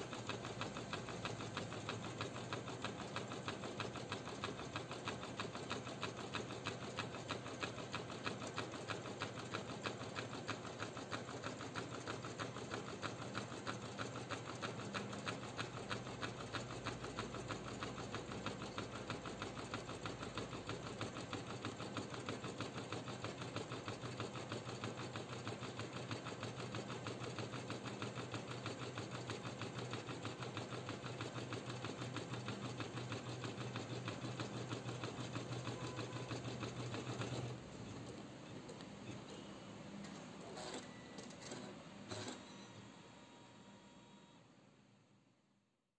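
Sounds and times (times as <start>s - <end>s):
embroidery machine stitching: 0.0s - 38.2s.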